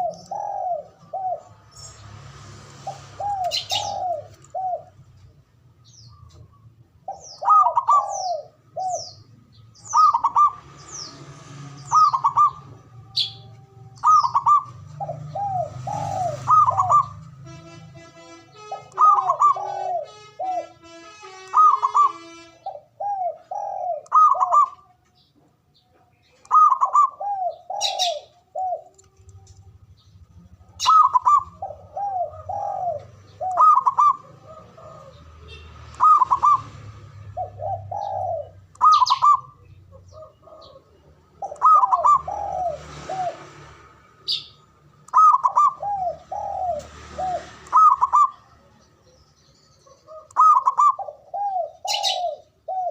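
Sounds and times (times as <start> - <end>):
dove cooing song: 0.0 - 2.0, 2.8 - 17.5, 18.2 - 52.9.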